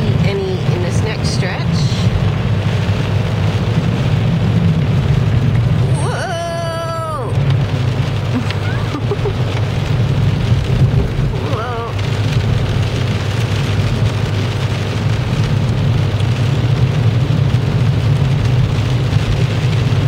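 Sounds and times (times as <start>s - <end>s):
car engine and tyres drone: 0.0s - 20.0s
hiss of spray and rain: 0.0s - 20.0s.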